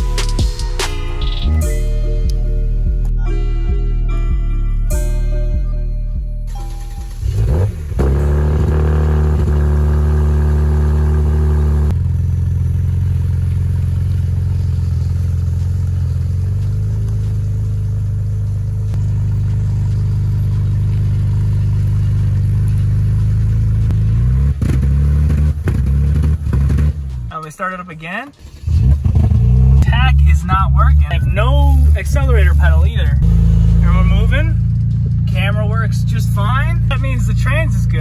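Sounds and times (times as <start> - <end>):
car engine starting: 0.0 - 38.0
car engine idling: 4.9 - 38.0.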